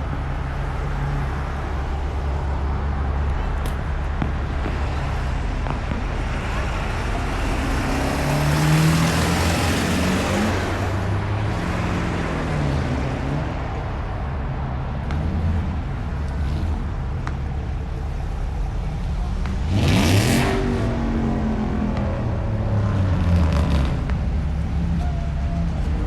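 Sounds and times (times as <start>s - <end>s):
vehicle passing and accelerating: 0.0s - 17.2s, 19.2s - 24.8s
car engines in slow traffic: 0.0s - 26.0s.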